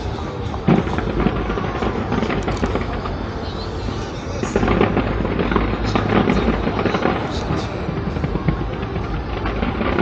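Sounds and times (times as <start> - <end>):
crowd chatter: 0.0 - 10.0
distant fireworks popping: 0.0 - 10.0.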